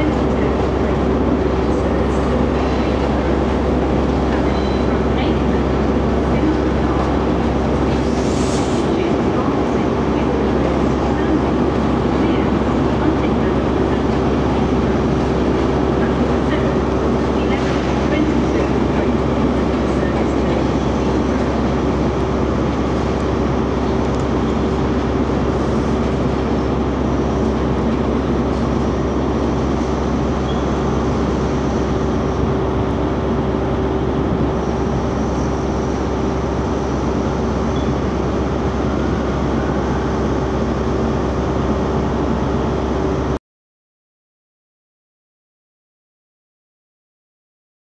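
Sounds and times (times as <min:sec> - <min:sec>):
electric train hum: 0:00.0 - 0:43.4.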